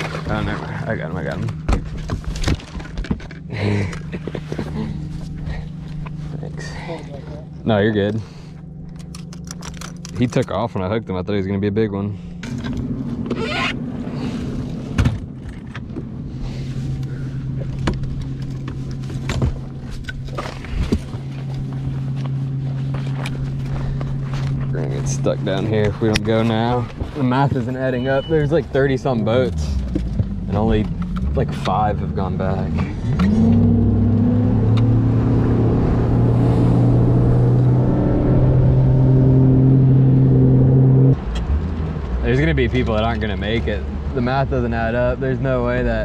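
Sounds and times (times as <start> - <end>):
boat motor humming: 0.0 - 46.0.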